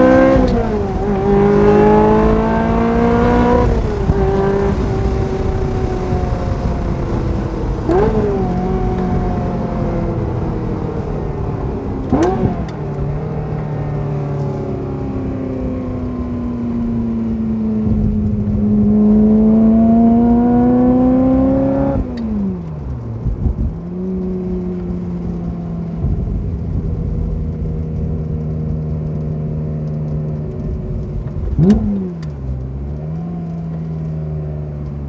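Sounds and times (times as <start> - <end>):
sports car engine revving: 0.0 - 35.0.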